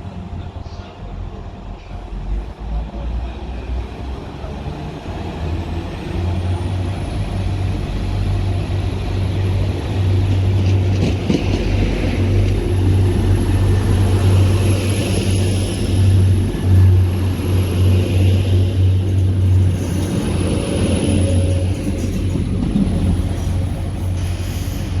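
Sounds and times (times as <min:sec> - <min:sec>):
train engine rumbling: 0:00.0 - 0:25.0.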